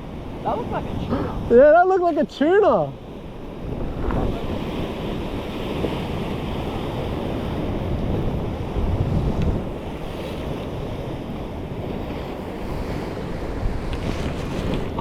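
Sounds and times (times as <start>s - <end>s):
ocean surf on rocks: 0.0s - 15.0s
wind buffeting microphone: 0.0s - 15.0s.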